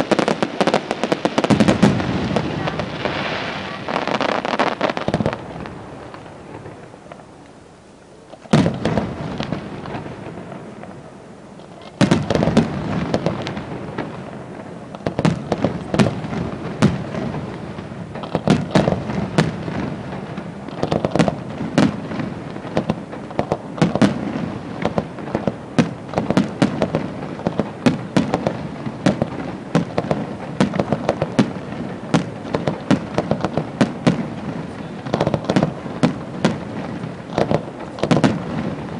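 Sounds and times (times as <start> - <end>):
fireworks bangs and cracks: 0.0 - 7.5, 8.3 - 38.9.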